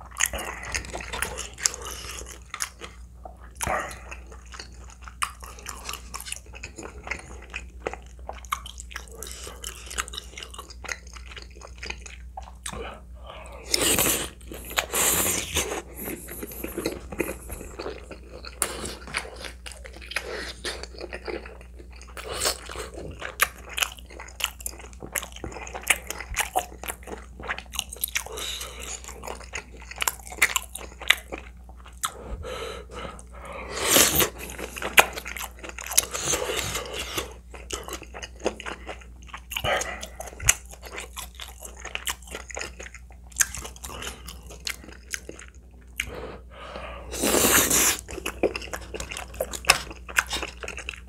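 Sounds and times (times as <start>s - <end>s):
chewing and biting food: 0.0s - 12.8s, 13.6s - 32.4s, 33.9s - 46.2s, 47.2s - 51.0s.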